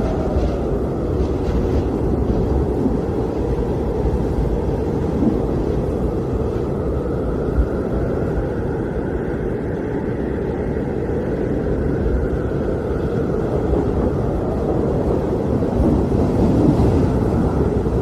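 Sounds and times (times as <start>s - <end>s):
blizzard wind blowing hard: 0.0s - 18.0s.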